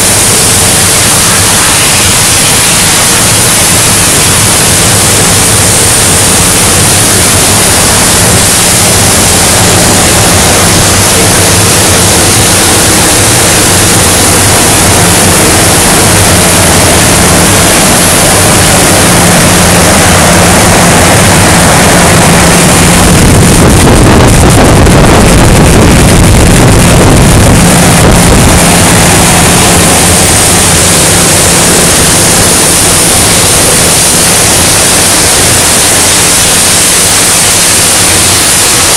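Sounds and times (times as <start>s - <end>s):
industrial hiss: 0.0s - 38.9s
low machine hum: 0.0s - 38.9s.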